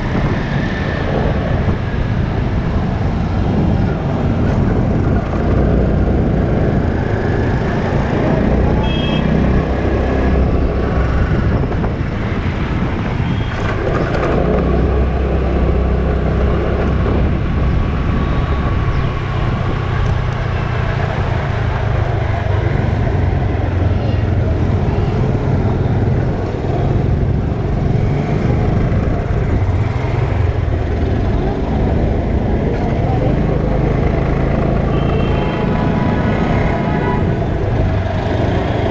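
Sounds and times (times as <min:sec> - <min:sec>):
surrounding traffic noise: 0:00.0 - 0:38.9
wind rumble on microphone: 0:00.0 - 0:38.9.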